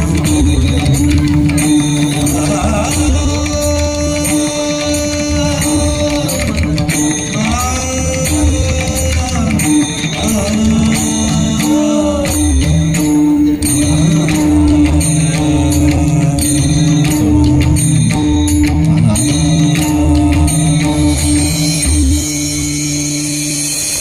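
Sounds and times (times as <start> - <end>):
jingling percussion: 0.0 - 24.0.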